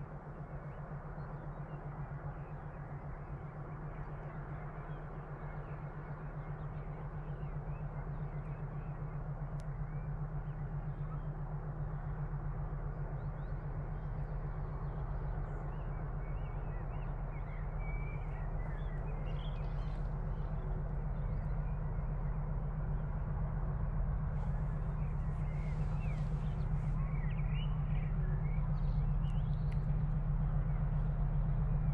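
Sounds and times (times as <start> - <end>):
distant diesel locomotive drone: 0.0 - 31.9.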